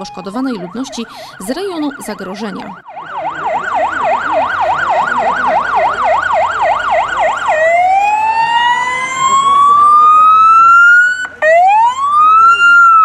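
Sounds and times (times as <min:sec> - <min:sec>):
electronic siren yelp and wail: 0:00.0 - 0:13.0.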